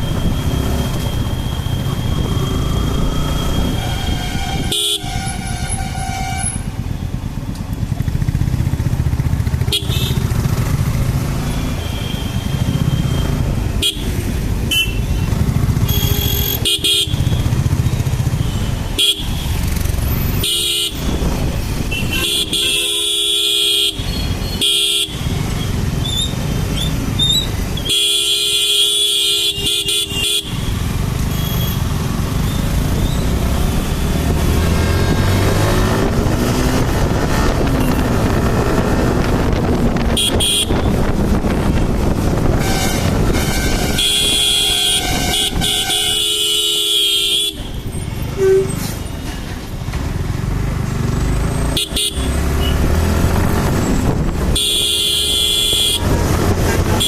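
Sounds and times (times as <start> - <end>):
vehicle horns honking: 0.0 - 7.0, 9.6 - 10.6, 11.4 - 25.9, 27.2 - 32.0, 32.6 - 38.8, 39.9 - 41.4, 42.3 - 49.3, 51.6 - 53.1, 54.1 - 57.0
motorcycle riding in traffic: 0.0 - 57.0.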